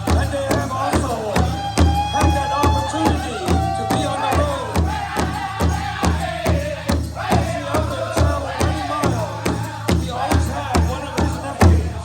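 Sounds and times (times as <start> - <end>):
fast drum beat: 0.0 - 12.0.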